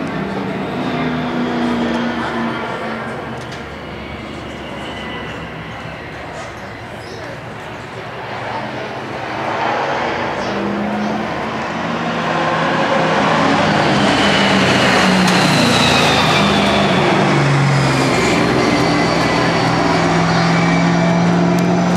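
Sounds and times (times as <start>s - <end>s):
stock car engines passing: 0.0s - 21.9s.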